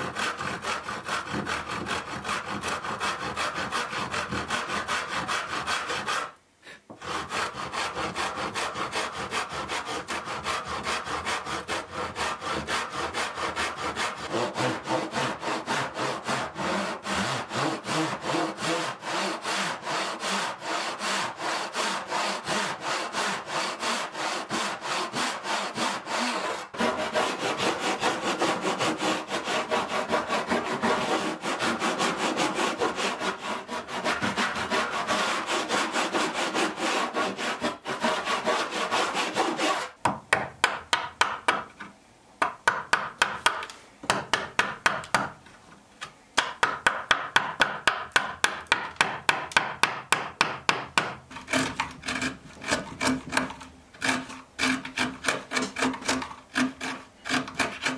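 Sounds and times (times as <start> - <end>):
hand saw cutting wood: 0.0 - 40.0, 46.9 - 57.9.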